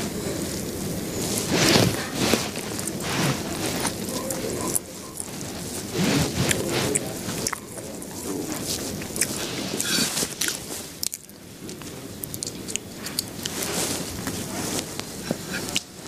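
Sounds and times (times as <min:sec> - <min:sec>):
crunching and crackling: 0:00.0 - 0:16.0.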